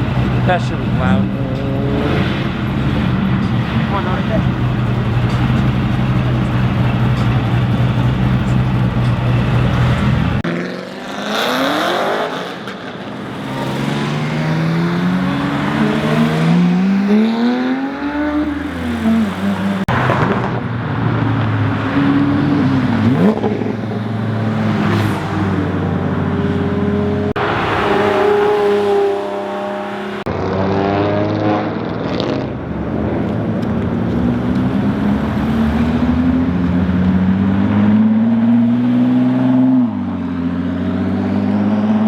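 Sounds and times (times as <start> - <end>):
car engines running loudly: 0.0 - 42.0
cars accelerating past: 0.0 - 42.0.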